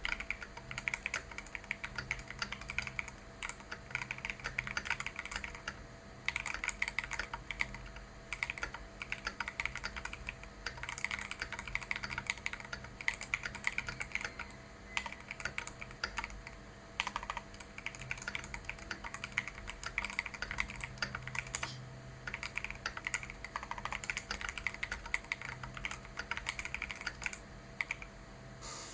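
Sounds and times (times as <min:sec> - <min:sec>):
typing on mechanical keyboard: 0:00.0 - 0:28.1.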